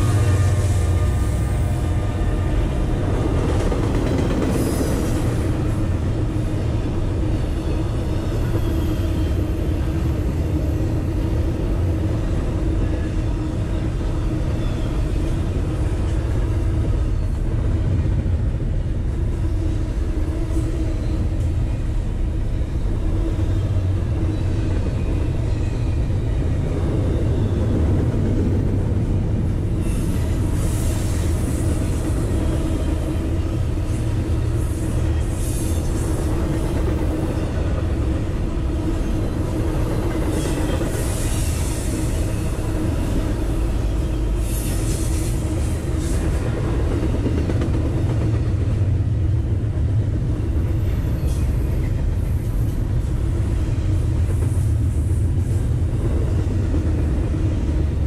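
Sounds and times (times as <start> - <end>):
locomotive engine drone: 0.0 - 58.0.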